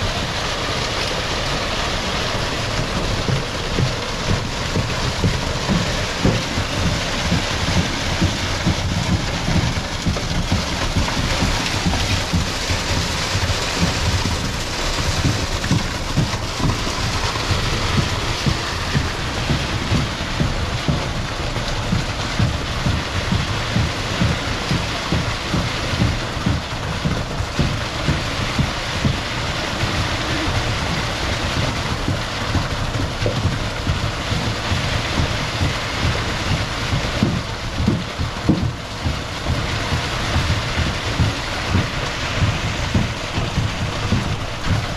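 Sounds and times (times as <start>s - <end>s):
concrete pouring rushing noise: 0.0s - 44.9s
concrete pump truck running: 0.0s - 44.9s
quick low thumps: 2.0s - 44.9s.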